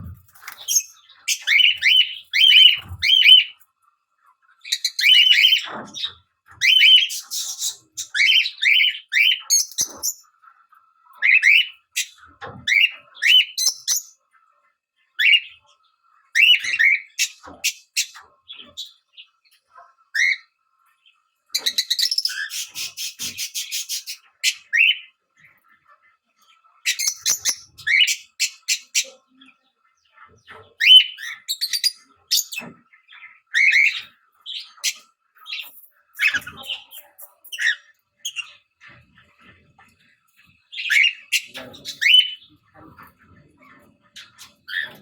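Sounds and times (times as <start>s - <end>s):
bird chirping and squawking: 0.0s - 3.6s, 4.6s - 10.4s, 11.1s - 14.3s, 16.3s - 19.4s, 20.0s - 20.6s, 21.5s - 25.6s, 26.4s - 45.0s.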